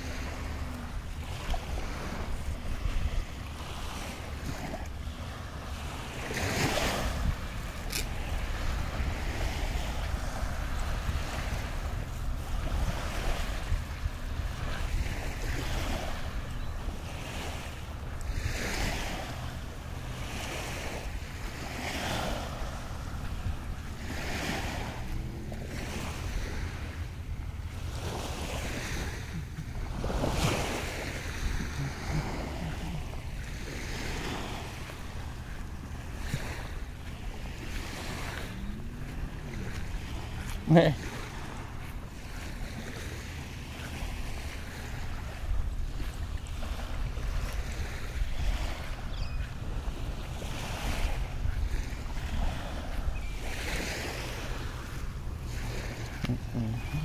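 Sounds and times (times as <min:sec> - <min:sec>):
small waves lapping on shore: 0:00.0 - 0:57.0
wind rumbling on microphone: 0:00.0 - 0:57.0.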